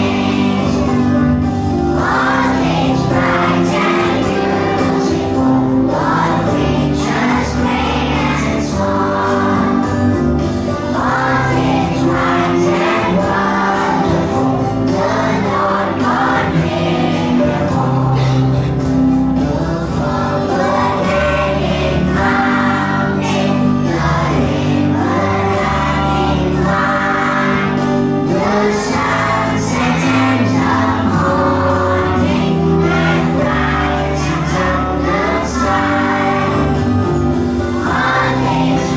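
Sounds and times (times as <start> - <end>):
group singing in chorus: 0.0 - 38.9
instrumental accompaniment with bass: 0.0 - 38.9.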